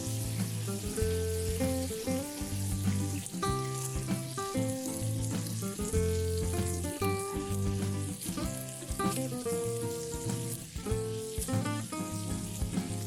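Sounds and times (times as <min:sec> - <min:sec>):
background music: 0:00.0 - 0:13.0
food sizzling in oil: 0:00.0 - 0:13.0.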